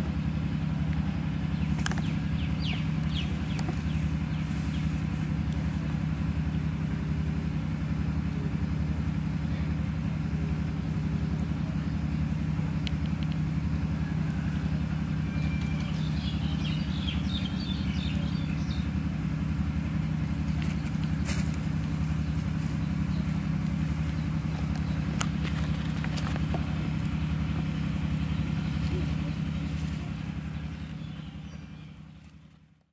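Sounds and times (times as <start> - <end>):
low pulsing motor hum: 0.0 - 32.9.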